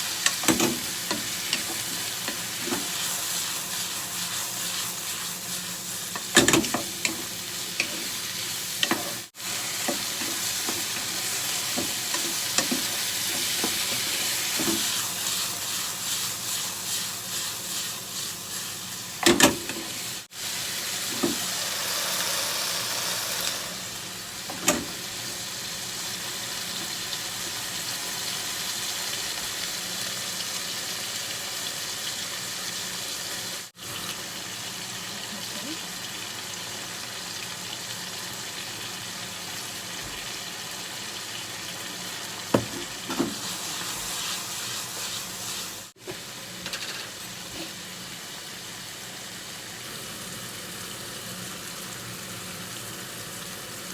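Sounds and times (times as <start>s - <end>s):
food sizzling in a frying pan: 0.0s - 53.9s.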